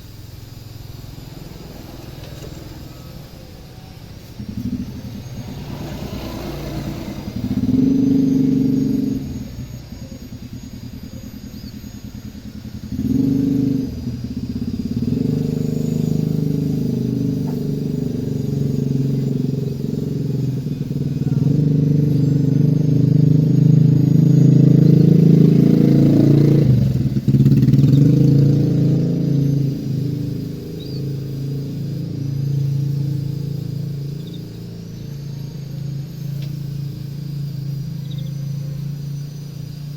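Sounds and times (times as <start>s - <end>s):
vehicle engine running: 0.0s - 39.9s
faint high bird calls: 0.6s - 39.9s.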